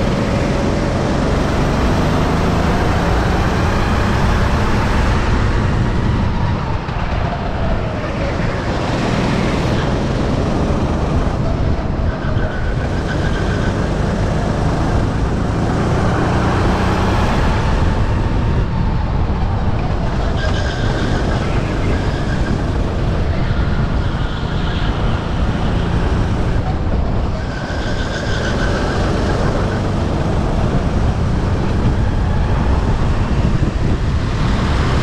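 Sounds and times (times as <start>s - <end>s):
kart engine revving: 0.0s - 35.0s.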